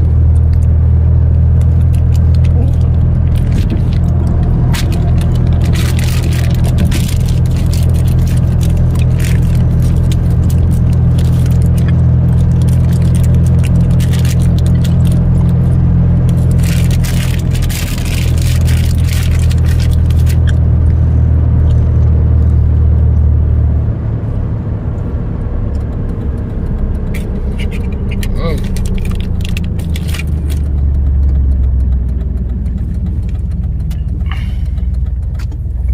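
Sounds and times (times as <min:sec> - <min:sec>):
truck road and engine rumble: 0:00.0 - 0:35.9.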